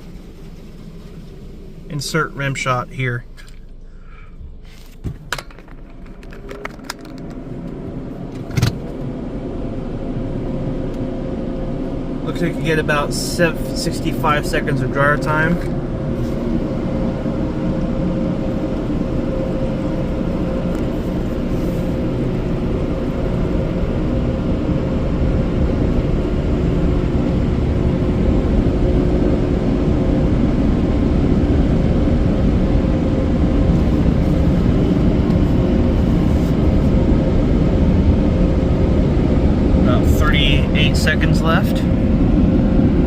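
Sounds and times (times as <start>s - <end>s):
car wash dryer blowers roaring: 0.0s - 43.0s.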